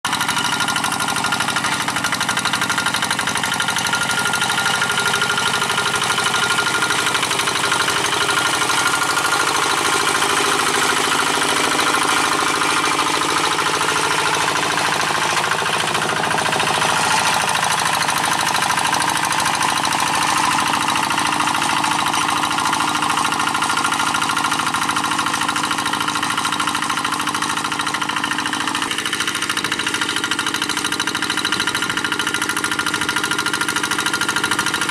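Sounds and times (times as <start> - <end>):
diesel tractor engine running: 0.0 - 34.9.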